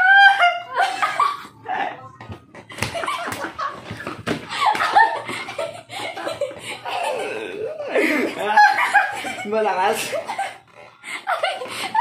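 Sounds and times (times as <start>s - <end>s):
young people laughing: 0.0s - 1.8s, 2.7s - 12.0s.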